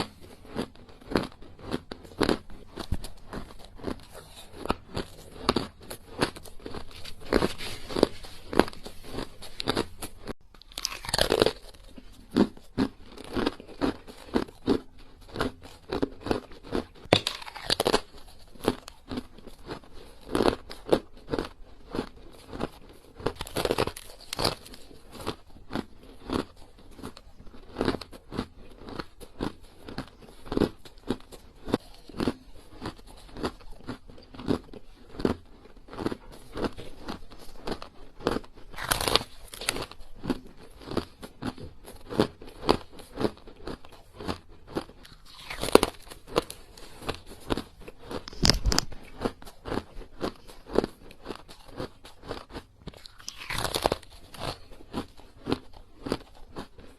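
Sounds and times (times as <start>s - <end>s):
ice being chewed: 0.0s - 56.9s.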